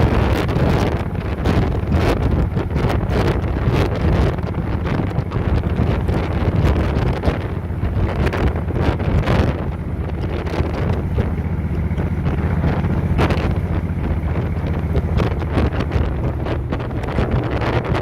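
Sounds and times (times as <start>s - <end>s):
low engine drone: 0.0s - 18.0s
wind buffeting microphone: 0.0s - 18.0s.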